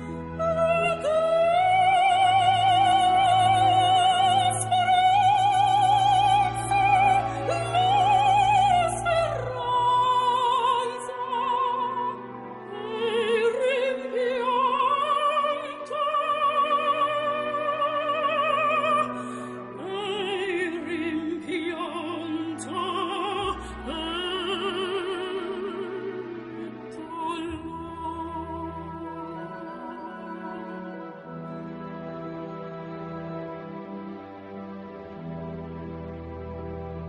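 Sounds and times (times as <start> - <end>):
operatic singing with vibrato: 0.0 - 36.4.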